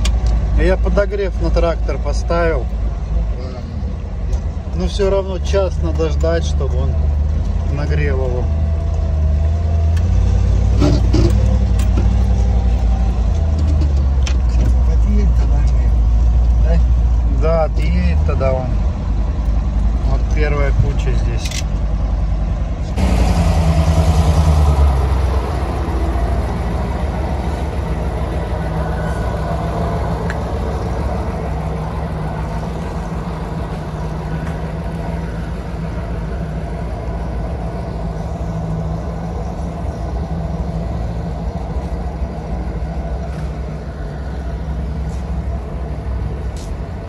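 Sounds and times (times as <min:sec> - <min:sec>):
truck engine at low revs: 0:00.0 - 0:47.0.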